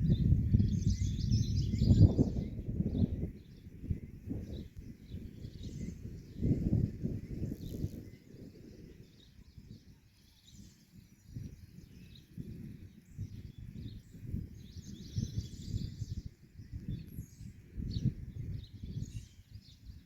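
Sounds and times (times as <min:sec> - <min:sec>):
low rumble in gusts: 0:00.0 - 0:19.8
small birds chirping: 0:00.0 - 0:20.0.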